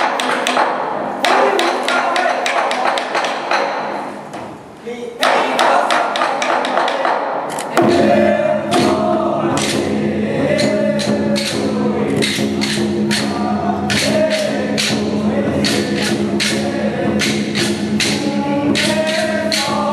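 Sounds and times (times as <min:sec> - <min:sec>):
percussion strikes: 0:00.0 - 0:04.6, 0:05.2 - 0:19.9.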